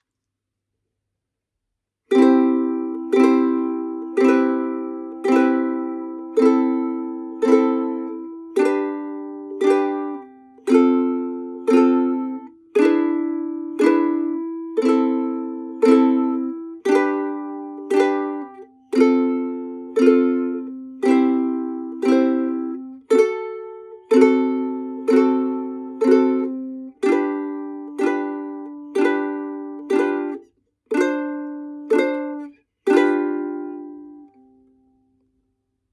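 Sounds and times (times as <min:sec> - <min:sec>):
strummed string instrument chords: 0:02.1 - 0:34.5.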